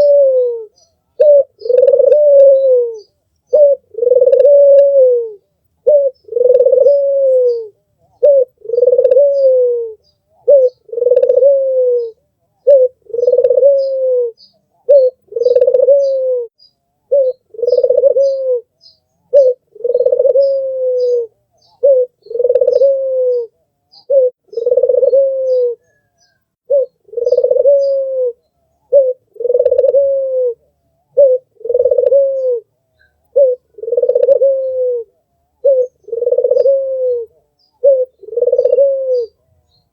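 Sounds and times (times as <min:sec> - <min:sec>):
dove cooing: 0:00.0 - 0:39.6.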